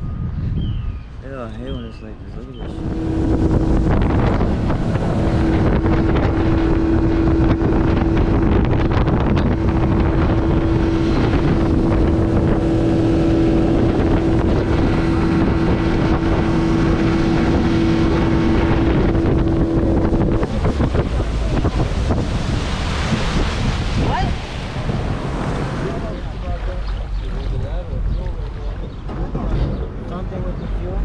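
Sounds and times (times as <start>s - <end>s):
wind buffeting microphone: 0.0s - 31.0s
outboard motor whining: 2.2s - 31.0s
water rushing past hull: 2.2s - 31.0s.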